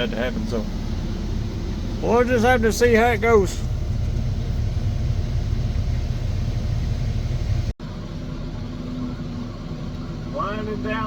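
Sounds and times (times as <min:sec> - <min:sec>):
diesel engine low rumble: 0:00.0 - 0:11.0
quiet engine hum: 0:00.0 - 0:11.0.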